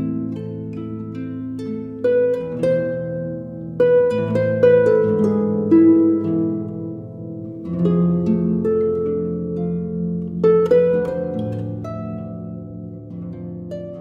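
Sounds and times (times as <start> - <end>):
plucked harp-like notes: 0.0 - 14.0.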